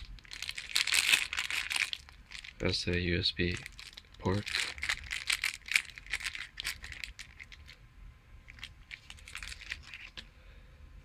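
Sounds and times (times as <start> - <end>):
plastic bag crinkling: 0.0 - 7.8, 8.4 - 10.2.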